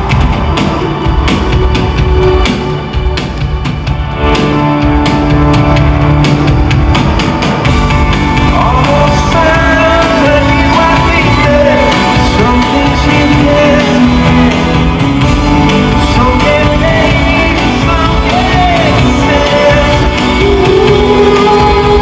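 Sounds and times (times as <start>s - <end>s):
live rock music with singer: 0.0s - 22.0s.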